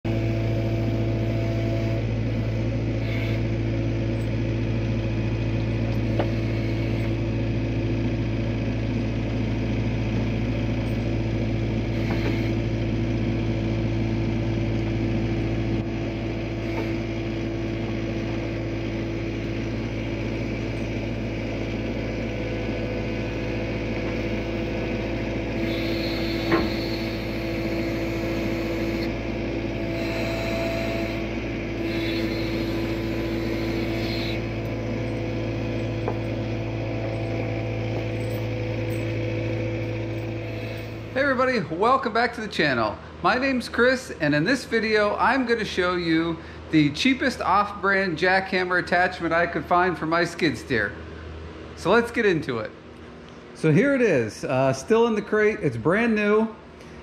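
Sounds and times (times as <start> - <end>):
engine running steadily: 0.0 - 54.8, 55.7 - 57.0.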